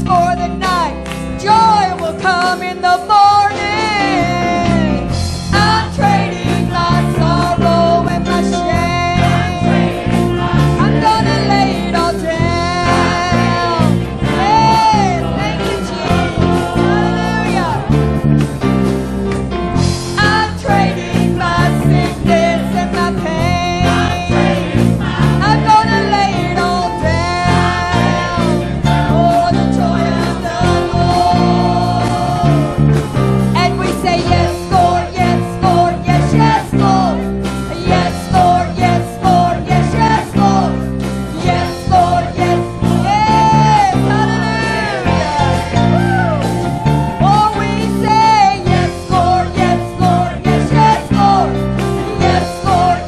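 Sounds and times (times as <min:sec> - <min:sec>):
live gospel band music: 0:00.0 - 0:53.0.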